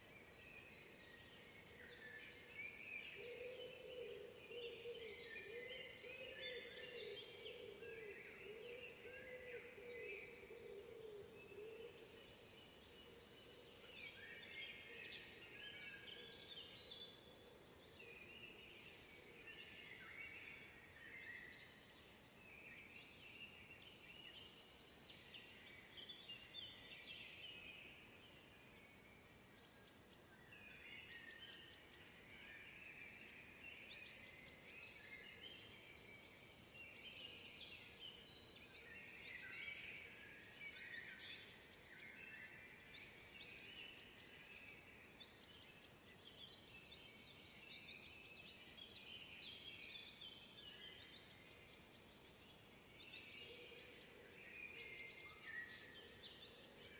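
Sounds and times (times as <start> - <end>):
songbirds twittering: 0.1 - 56.9.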